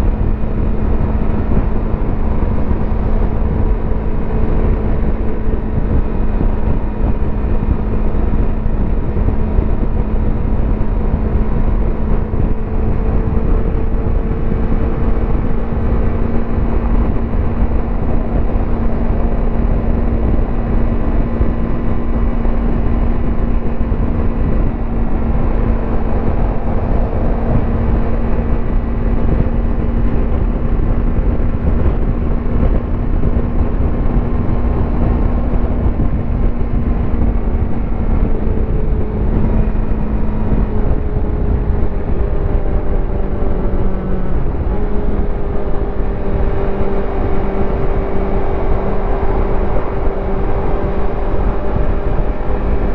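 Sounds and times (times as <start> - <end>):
low wind noise: 0.0 - 52.9
motorcycle engine and exhaust cruising: 0.0 - 52.9
road rumble: 0.0 - 52.9.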